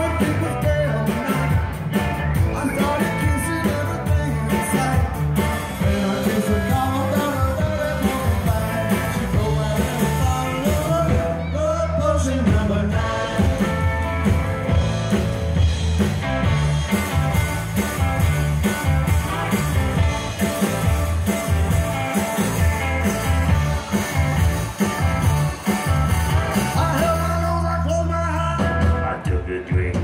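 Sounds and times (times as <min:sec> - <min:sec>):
drums with steady beat: 0:00.0 - 0:11.5, 0:12.2 - 0:30.0
bass guitar: 0:00.0 - 0:30.0
electric guitars: 0:00.0 - 0:30.0.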